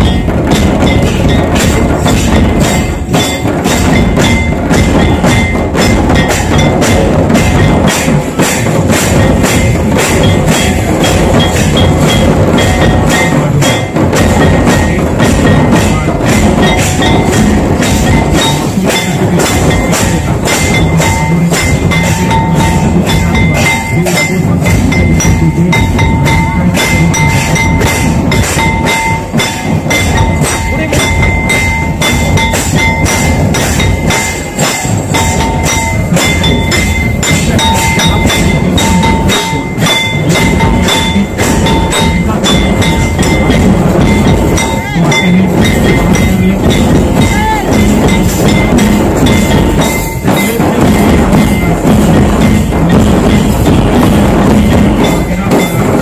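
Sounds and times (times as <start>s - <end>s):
barrel drums beaten fast: 0.0s - 56.0s.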